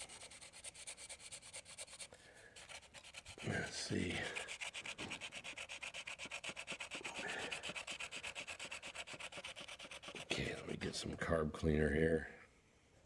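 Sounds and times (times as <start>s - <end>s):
sanding by hand: 0.0s - 10.7s.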